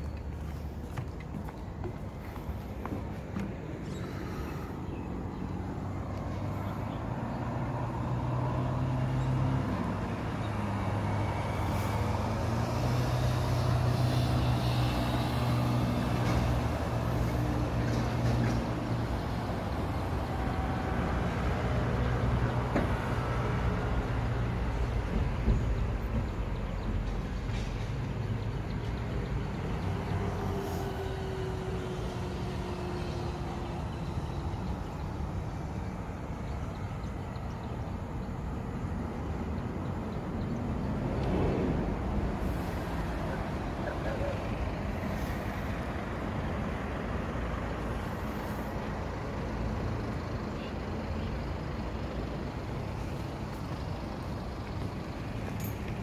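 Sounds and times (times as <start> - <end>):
heavy vehicle engines humming: 0.0 - 56.0.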